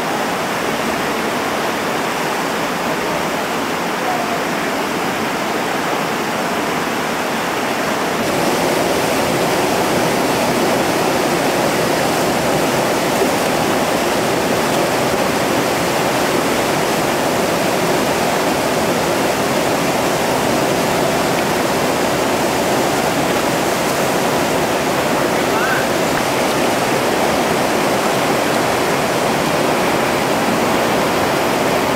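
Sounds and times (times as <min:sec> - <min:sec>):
whitewater rapid rushing: 0:00.0 - 0:31.9.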